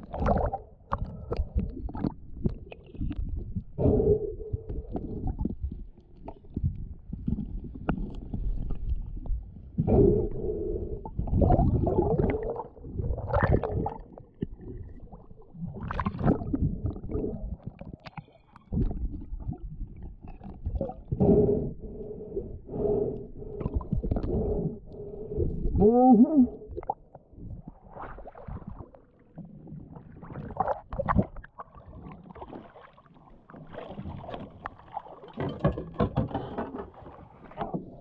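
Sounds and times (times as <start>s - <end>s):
muffled underwater sloshing: 0.0s - 38.0s.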